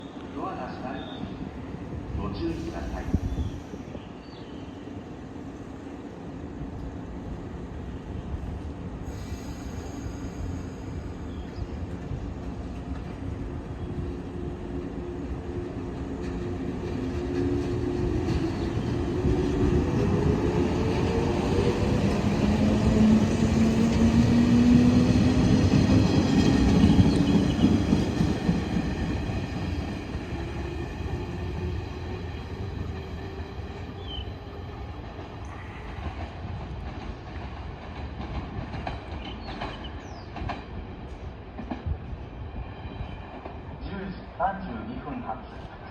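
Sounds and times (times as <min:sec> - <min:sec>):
train wheels rumbling: 0:06.2 - 0:43.8.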